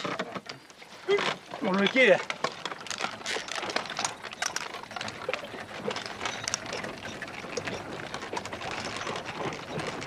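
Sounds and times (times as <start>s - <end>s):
wooden cart wheels rattling: 0.0s - 10.0s.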